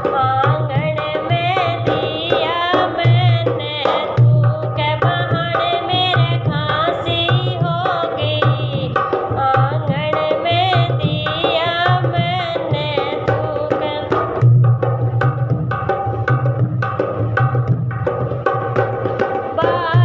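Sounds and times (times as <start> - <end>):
hand drum beat: 0.0 - 20.0.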